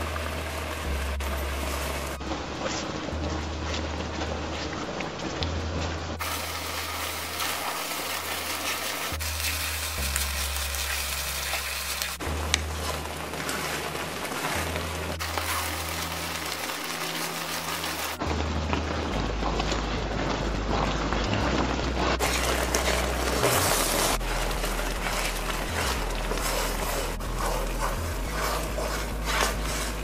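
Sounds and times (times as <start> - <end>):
mixture bubbling and sizzling in pan: 0.0 - 30.0.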